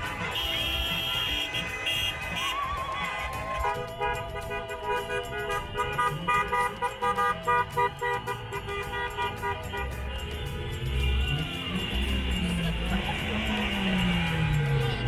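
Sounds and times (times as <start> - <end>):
car horn honking: 0.0 - 15.0
cars driving past: 0.0 - 15.0.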